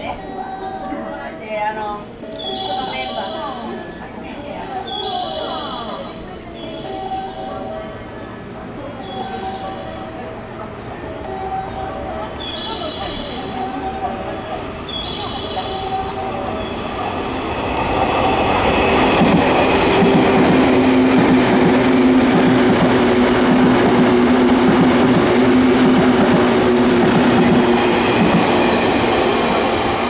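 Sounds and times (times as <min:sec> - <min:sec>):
train wheels rumbling on rail: 0:04.6 - 0:30.0.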